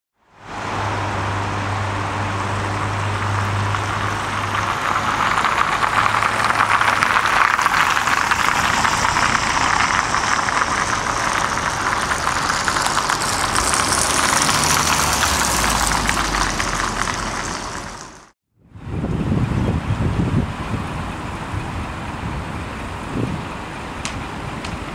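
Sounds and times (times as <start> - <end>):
road noise: 0.1 - 24.9
vehicle engines idling: 0.3 - 18.3, 18.9 - 24.9.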